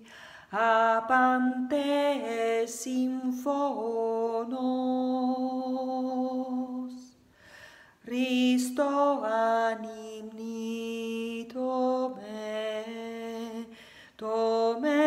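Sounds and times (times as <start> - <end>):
woman singing unaccompanied: 0.0 - 7.2, 8.0 - 15.0.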